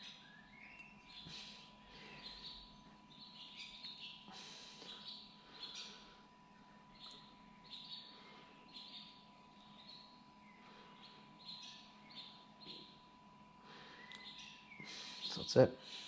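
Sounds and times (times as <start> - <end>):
bird chirping: 0.0 - 13.1, 13.8 - 16.0
faint electrical hum: 0.0 - 16.0.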